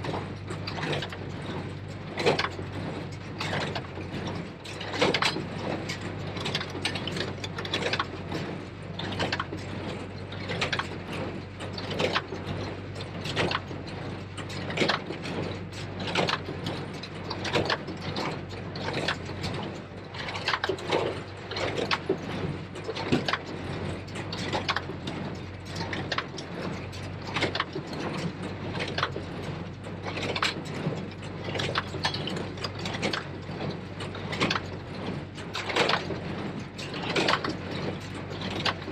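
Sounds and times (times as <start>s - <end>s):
tractor engine hum: 0.0s - 38.9s.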